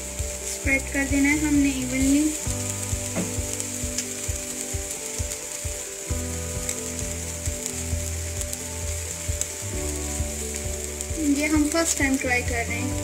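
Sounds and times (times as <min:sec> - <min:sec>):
omelette sizzling in a pan: 0:00.0 - 0:13.0.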